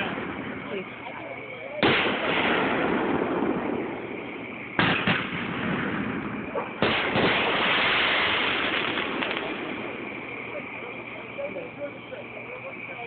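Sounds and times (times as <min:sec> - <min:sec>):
fireworks booming: 0:00.0 - 0:13.0
long noisy tail: 0:00.0 - 0:13.0.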